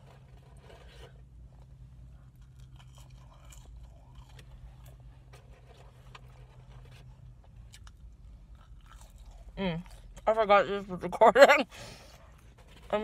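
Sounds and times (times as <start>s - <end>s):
chewing and crunching fries: 0.0s - 13.0s.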